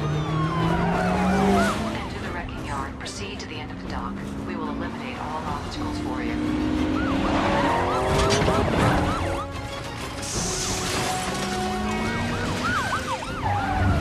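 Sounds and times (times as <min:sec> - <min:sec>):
police sirens yelping: 0:00.0 - 0:02.2, 0:04.0 - 0:14.0
car engines: 0:00.0 - 0:14.0.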